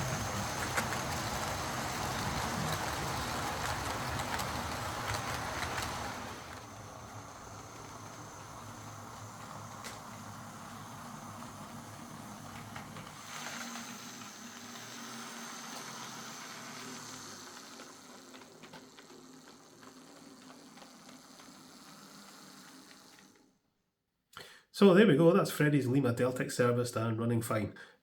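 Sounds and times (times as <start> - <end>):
model train motor whirring: 0.0 - 23.6.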